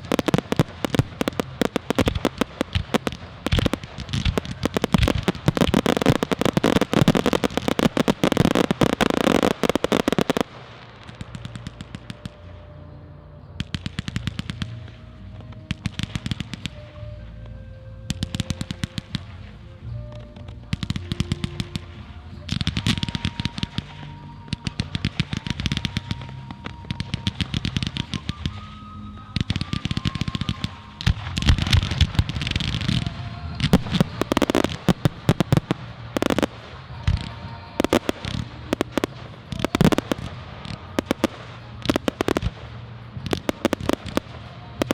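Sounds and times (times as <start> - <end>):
fireworks crackling and banging: 0.0 - 12.7, 13.6 - 17.2, 18.1 - 44.9
music playing: 0.0 - 44.9.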